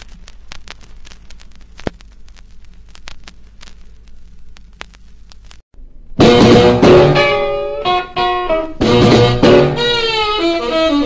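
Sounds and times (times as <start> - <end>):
sharp static pops: 0.0 - 9.8
static hiss: 0.0 - 11.0.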